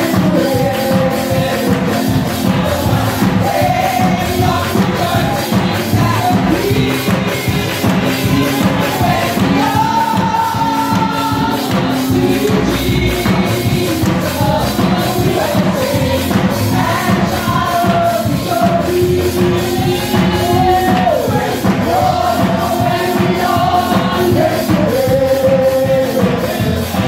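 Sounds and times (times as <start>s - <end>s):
music with percussive beat: 0.0s - 27.0s
voices singing a hymn: 0.0s - 27.0s.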